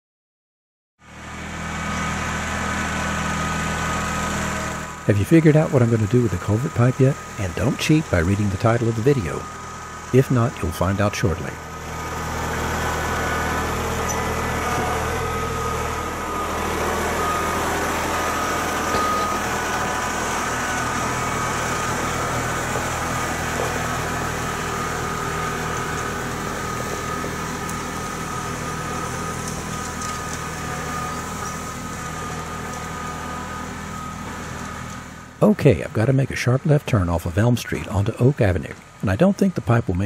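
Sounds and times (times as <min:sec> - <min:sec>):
tractor diesel engine running: 0:01.0 - 0:40.0.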